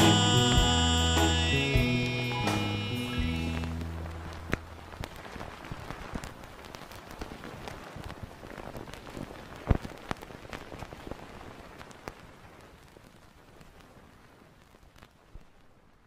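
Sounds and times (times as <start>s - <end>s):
vinyl record crackle and pops: 0.0s - 16.0s.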